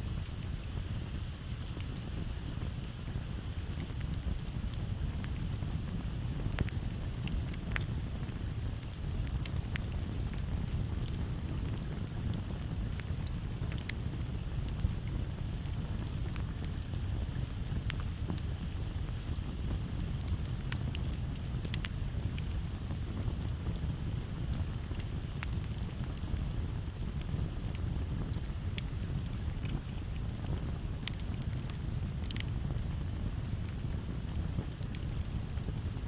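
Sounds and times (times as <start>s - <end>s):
campfire crackling: 0.0s - 36.0s
crickets trilling: 3.1s - 36.0s.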